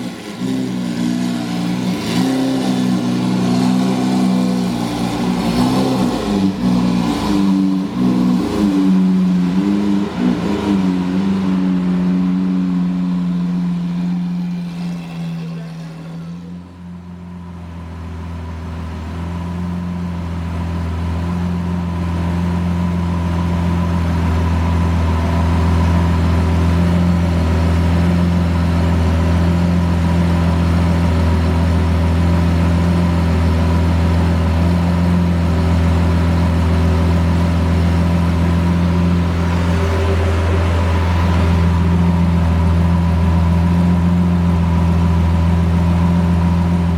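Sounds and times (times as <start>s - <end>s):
car engine low drone: 0.0s - 46.9s.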